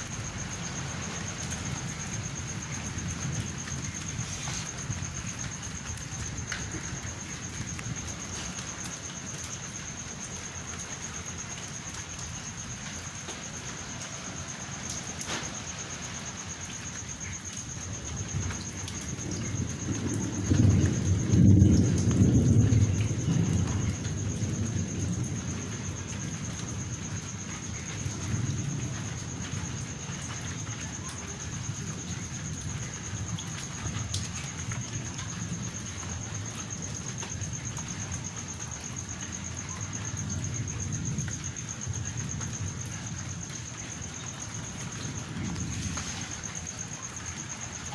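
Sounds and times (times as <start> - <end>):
steady rain: 0.0 - 47.9
thunder rumbling: 0.0 - 47.9.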